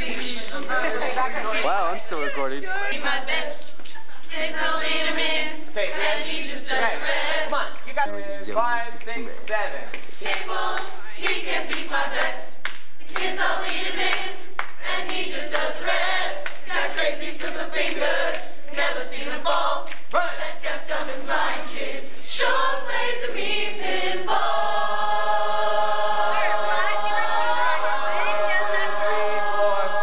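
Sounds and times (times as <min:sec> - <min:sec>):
group singing in chorus: 0:00.0 - 0:01.2, 0:02.9 - 0:07.9, 0:10.2 - 0:30.0.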